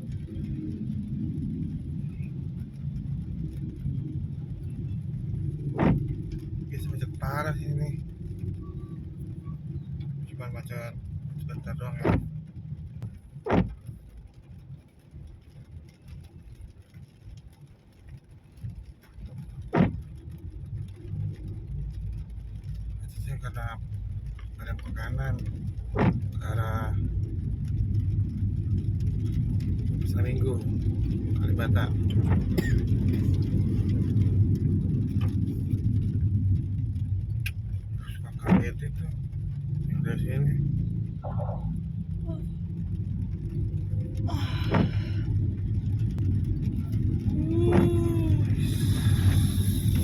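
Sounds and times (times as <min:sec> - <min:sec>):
car engine and road hum: 0:00.0 - 0:50.0.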